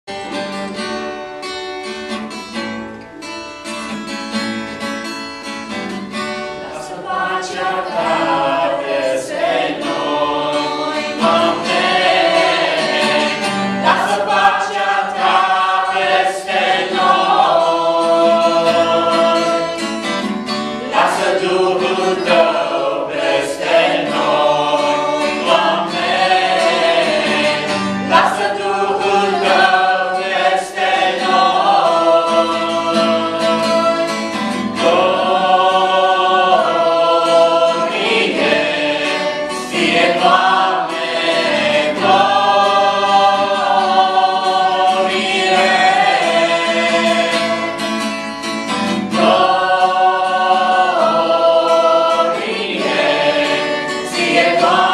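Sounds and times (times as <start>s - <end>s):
acoustic guitar strumming: 0.1s - 54.9s
group singing in unison: 6.4s - 54.9s.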